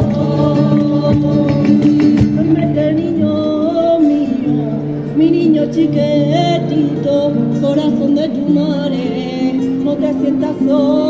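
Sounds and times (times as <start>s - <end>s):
acoustic guitar: 0.0s - 11.0s
women singing: 0.0s - 11.0s.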